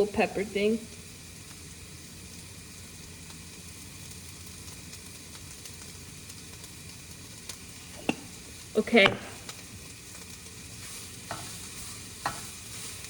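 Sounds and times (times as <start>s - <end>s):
onions sizzling in a pan: 0.0s - 13.0s.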